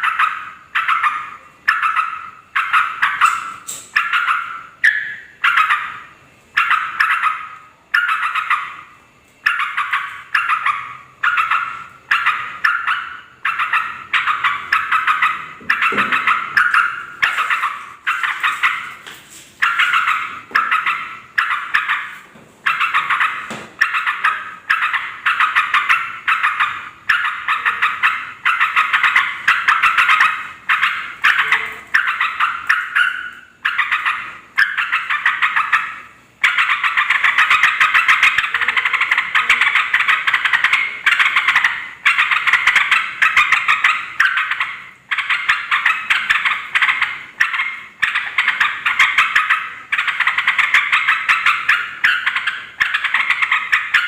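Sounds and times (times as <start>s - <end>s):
bulbuls chattering: 0.0s - 54.0s.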